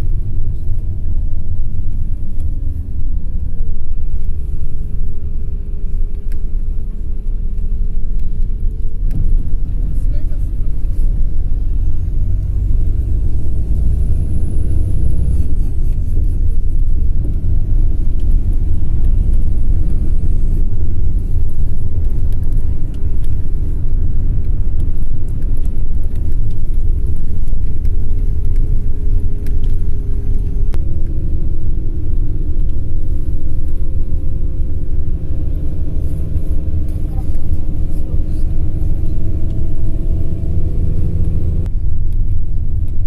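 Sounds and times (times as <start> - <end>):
car engine hum: 0.0 - 43.0
road rumble inside car: 0.0 - 43.0.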